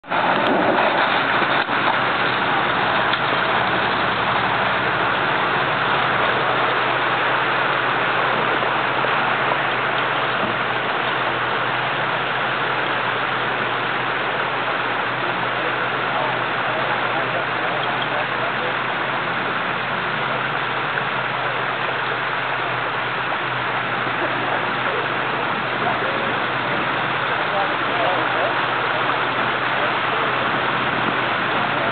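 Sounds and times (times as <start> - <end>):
car engine running steadily: 0.0 - 31.9
flowing water rushing: 0.0 - 31.9.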